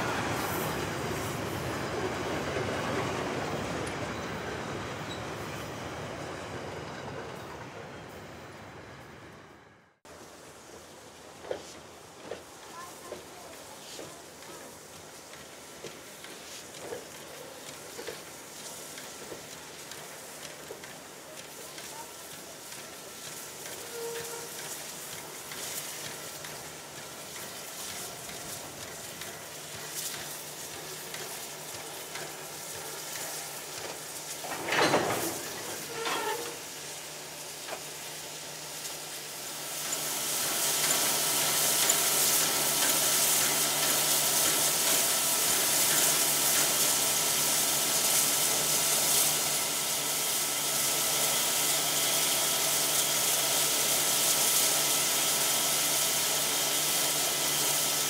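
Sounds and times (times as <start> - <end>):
steam hissing loudly: 0.0 - 6.8, 10.1 - 58.0
steam locomotive moving slowly: 0.0 - 58.0.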